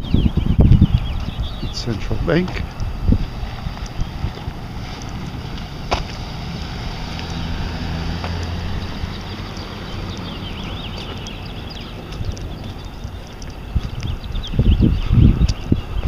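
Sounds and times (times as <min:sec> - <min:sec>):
low engine hum: 0:00.0 - 0:16.0
wind rumbling on microphone: 0:00.0 - 0:16.0.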